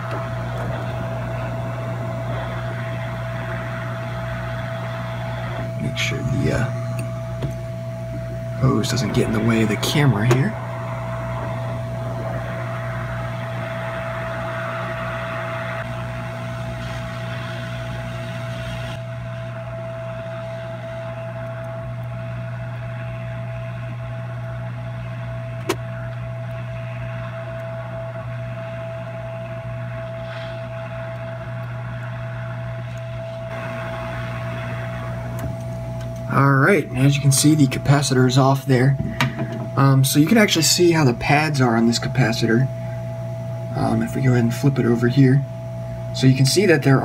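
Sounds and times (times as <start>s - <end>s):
hot air blower whirring hiss: 0.0s - 47.0s.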